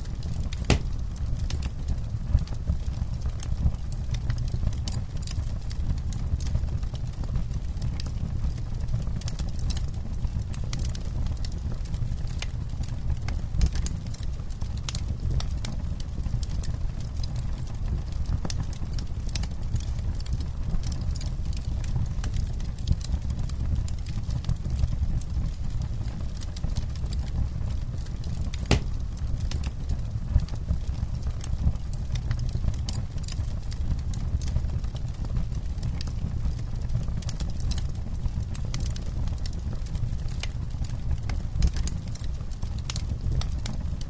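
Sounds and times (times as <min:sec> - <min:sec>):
campfire crackling and popping: 0:00.0 - 0:44.0.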